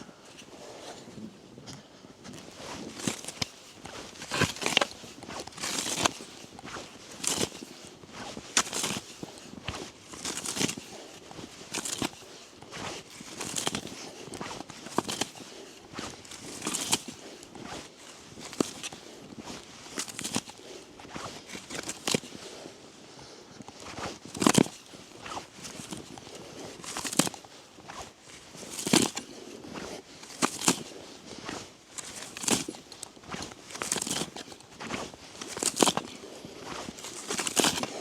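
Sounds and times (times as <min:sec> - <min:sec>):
footsteps crunching through snow: 0:02.2 - 0:23.0, 0:23.6 - 0:38.0.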